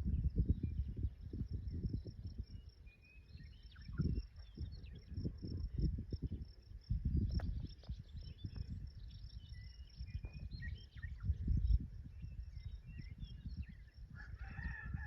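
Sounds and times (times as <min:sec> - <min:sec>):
wind gusts on microphone: 0:00.0 - 0:15.0.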